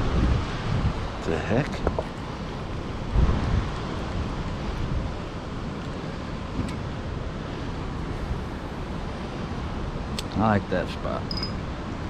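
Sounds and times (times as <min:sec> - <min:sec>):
wind buffeting microphone: 0:00.0 - 0:10.5
wind: 0:00.0 - 0:12.0.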